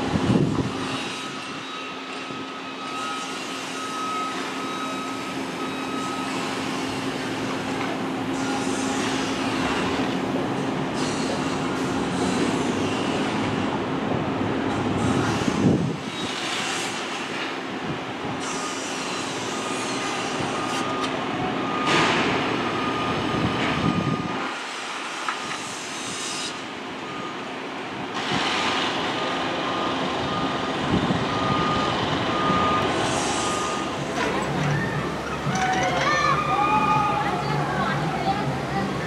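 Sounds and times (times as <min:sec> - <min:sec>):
vehicle running noise: 0:00.0 - 0:39.0.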